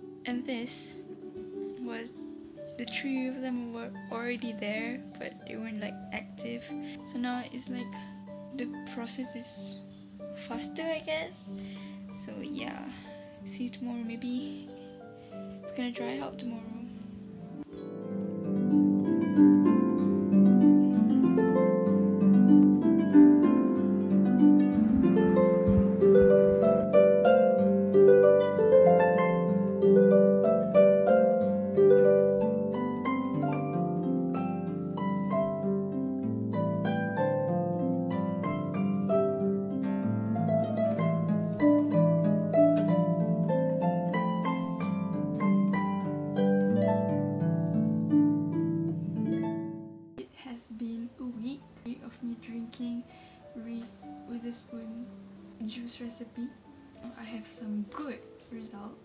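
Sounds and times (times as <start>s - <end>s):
plucked string music: 0.0s - 50.2s, 50.8s - 59.0s.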